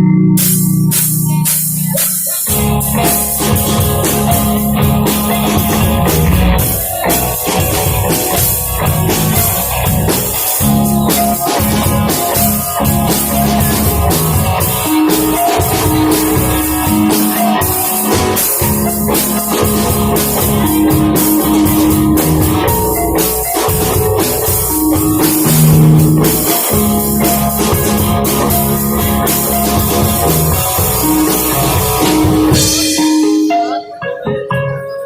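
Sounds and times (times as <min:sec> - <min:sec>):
rock band playing live: 0:00.0 - 0:35.0
drums and cymbals: 0:00.4 - 0:33.7.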